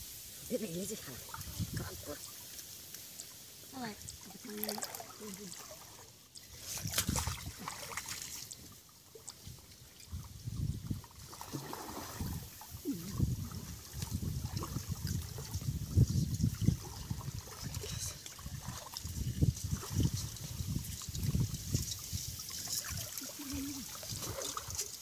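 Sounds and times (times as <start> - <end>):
water sloshing and splashing: 0.4 - 25.0.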